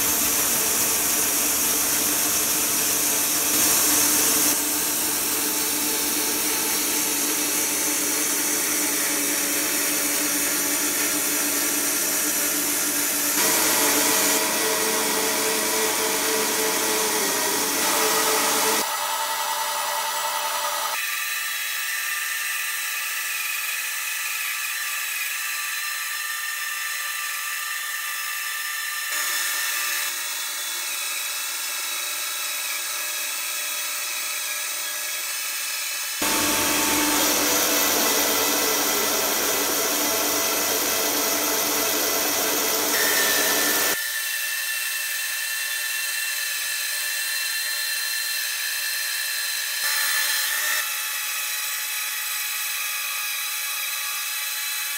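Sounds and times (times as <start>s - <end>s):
band saw cutting log: 0.0s - 54.9s.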